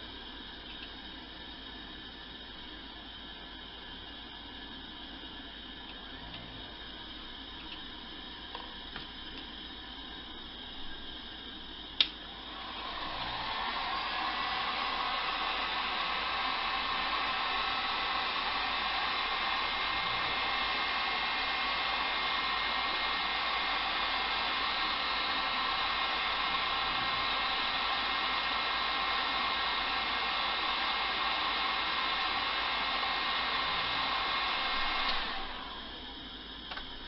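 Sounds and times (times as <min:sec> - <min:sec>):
small fan whirring: 0:00.0 - 0:37.0.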